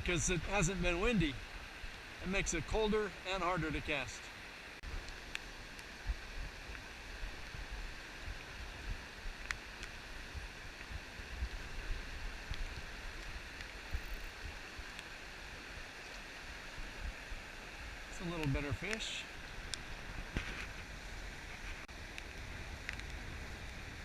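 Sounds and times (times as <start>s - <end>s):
river water rushing: 0.1s - 24.0s.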